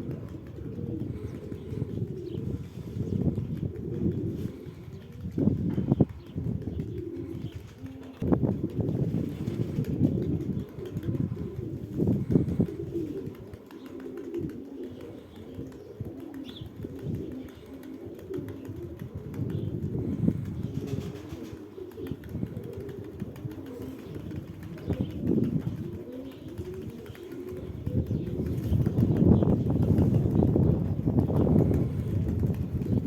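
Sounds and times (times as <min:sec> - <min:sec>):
pigeons cooing: 0:00.0 - 0:33.0
wings flapping: 0:00.0 - 0:33.0.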